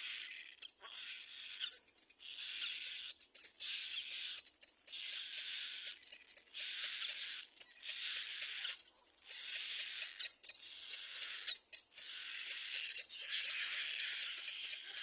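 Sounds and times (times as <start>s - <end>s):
cormorant chick hoarse hissing calls: 0.0s - 15.0s
sharp high clicks: 1.6s - 15.0s.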